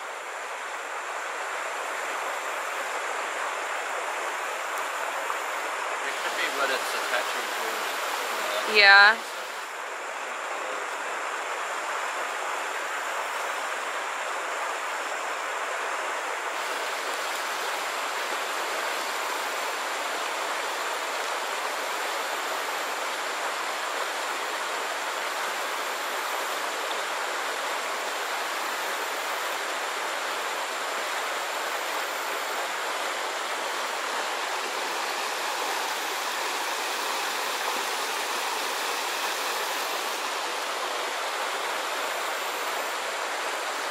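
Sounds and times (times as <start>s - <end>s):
stream water rushing over rocks: 0.0s - 43.9s.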